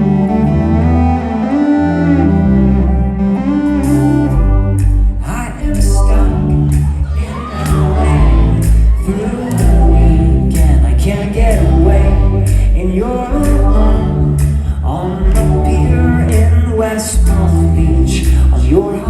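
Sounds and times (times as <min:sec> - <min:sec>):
low bass tones: 0:00.0 - 0:19.0
pop band playing: 0:03.2 - 0:19.0.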